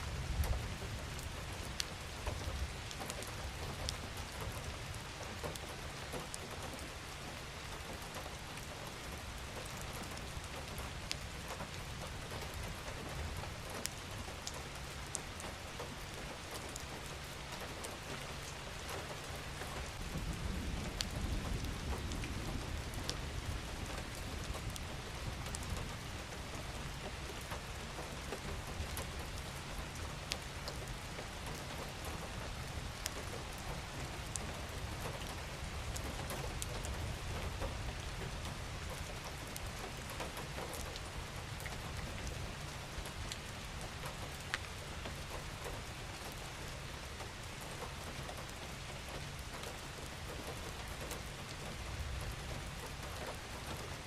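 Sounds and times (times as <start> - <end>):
rain drops ticking on a surface: 0.0 - 54.0.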